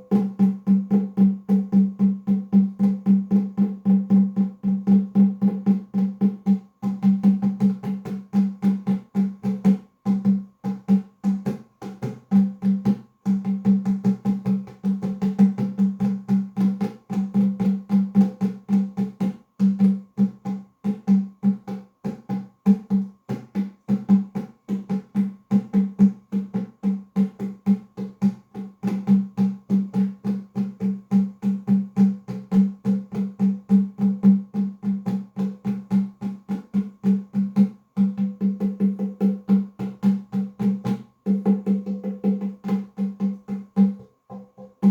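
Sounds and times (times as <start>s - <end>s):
hand drums playing: 0.0s - 44.9s.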